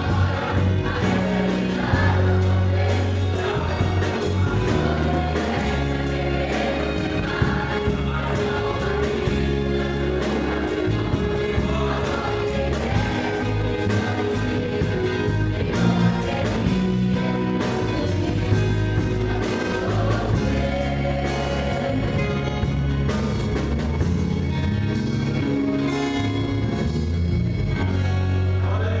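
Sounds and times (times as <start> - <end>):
choir singing gospel music: 0.0 - 29.0.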